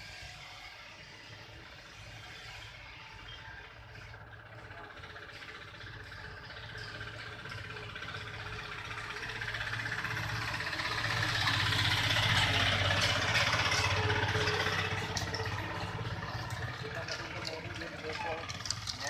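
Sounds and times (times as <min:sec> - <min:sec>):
engine running with pulsing hum: 0:00.0 - 0:19.0.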